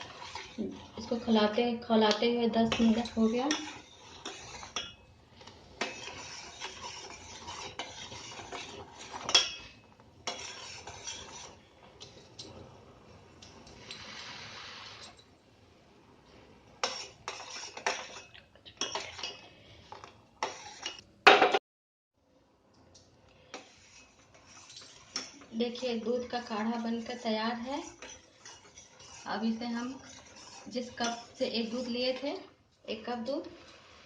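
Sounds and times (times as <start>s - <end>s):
metal spoon scraping a pan: 0.0s - 15.4s, 16.3s - 21.0s, 23.4s - 34.0s
milk boiling: 0.0s - 21.0s, 22.5s - 34.0s.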